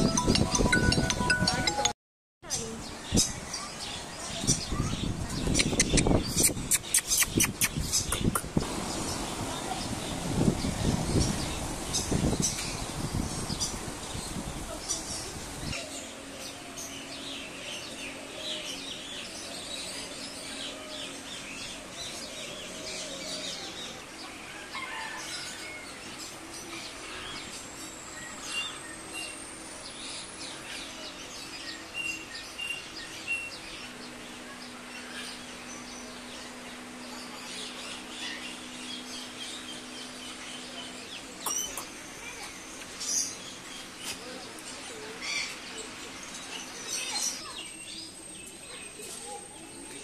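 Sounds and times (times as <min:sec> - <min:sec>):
small birds chirping: 0:02.4 - 0:50.0.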